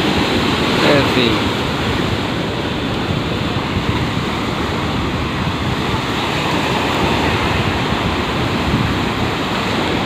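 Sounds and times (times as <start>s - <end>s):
surf washing onto beach: 0.0s - 10.0s
wind rumbling on microphone: 0.0s - 10.0s.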